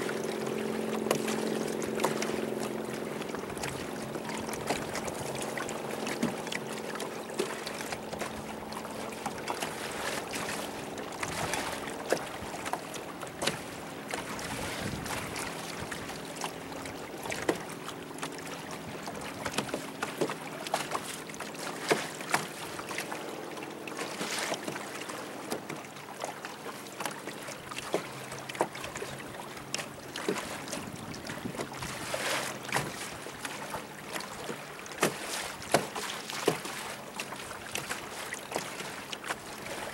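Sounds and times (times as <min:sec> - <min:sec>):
water slapping against boat hull: 0:00.0 - 0:39.9.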